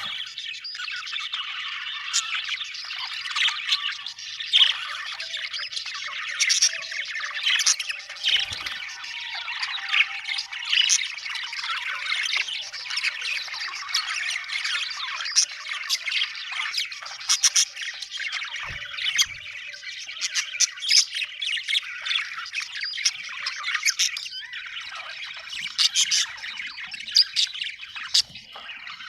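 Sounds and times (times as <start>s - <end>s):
budgerigars chattering and chirping: 0.0s - 29.0s.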